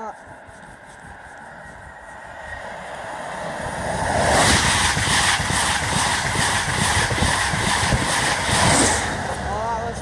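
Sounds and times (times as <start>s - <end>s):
train passing at high speed: 0.1s - 10.0s
wheels clattering on rails: 0.2s - 10.0s.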